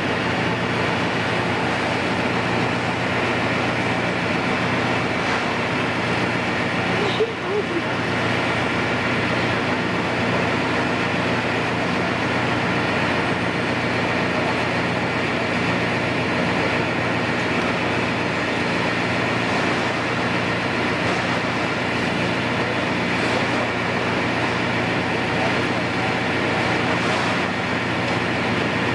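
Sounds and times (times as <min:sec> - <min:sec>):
heavy engine noise: 0:00.0 - 0:28.9.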